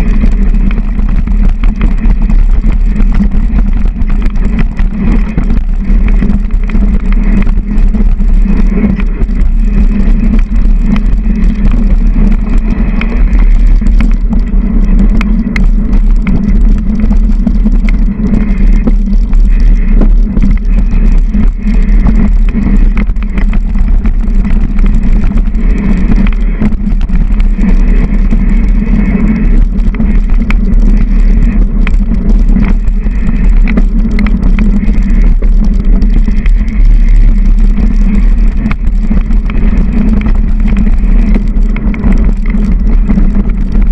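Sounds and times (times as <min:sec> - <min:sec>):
bike tyres rumbling on dirt: 0:00.0 - 0:43.9.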